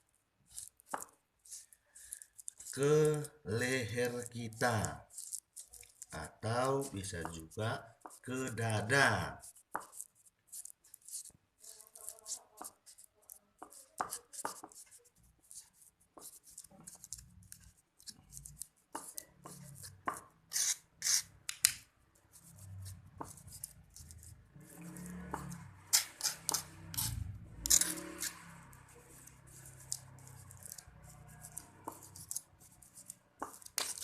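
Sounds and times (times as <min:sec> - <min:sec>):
hand rubbing and scraping: 0:00.5 - 0:34.0.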